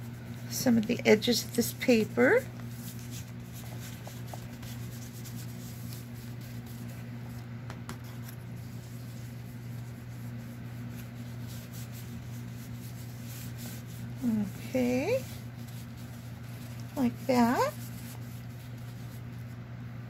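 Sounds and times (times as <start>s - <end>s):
foam tool rubbing on paper: 0.0s - 19.6s
steady low hum: 0.0s - 20.0s.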